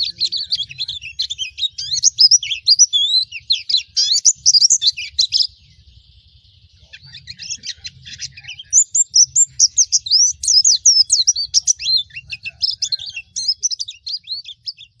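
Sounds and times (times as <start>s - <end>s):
white-eye twittering song: 0.0s - 15.0s.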